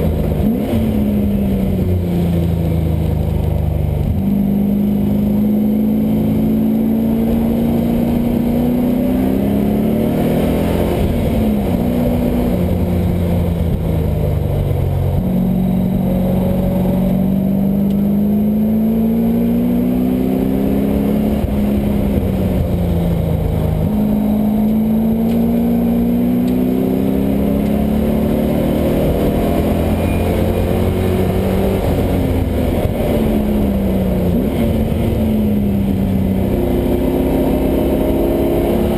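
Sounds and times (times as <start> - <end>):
car engine revving at speed: 0.0 - 38.9.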